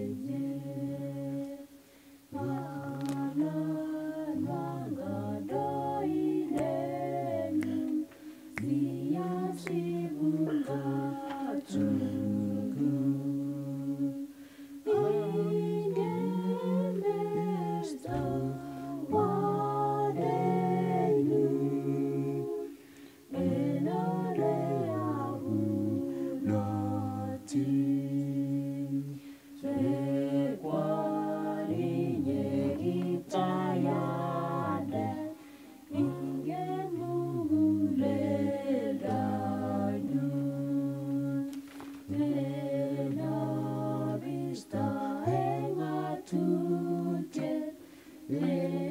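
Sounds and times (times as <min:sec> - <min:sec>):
vocal group singing a hymn: 0:00.0 - 0:48.9.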